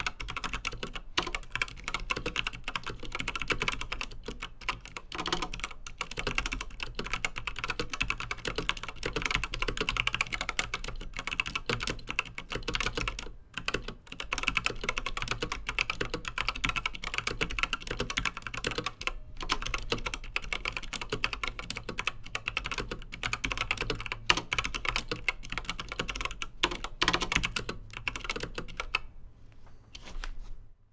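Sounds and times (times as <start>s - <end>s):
fast mechanical keyboard typing: 0.0s - 29.1s.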